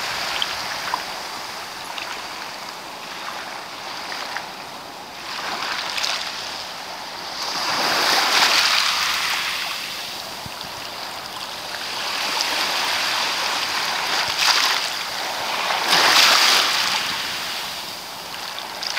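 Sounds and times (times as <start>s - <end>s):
surf washing onto sand: 0.0s - 18.9s.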